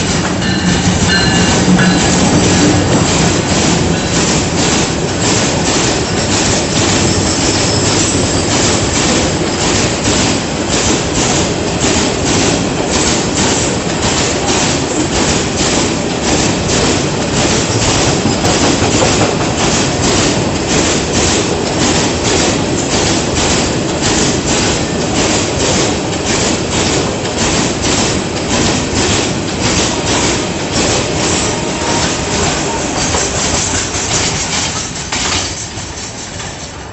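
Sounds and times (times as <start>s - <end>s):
train wheels clattering over rail joints: 0.0s - 36.9s.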